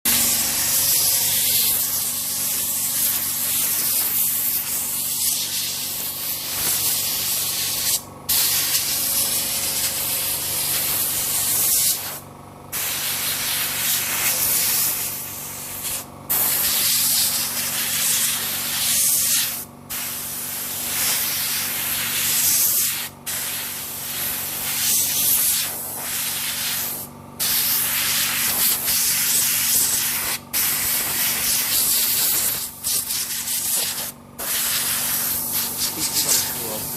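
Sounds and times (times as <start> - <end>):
compressed air hissing blasts: 0.1 - 36.9.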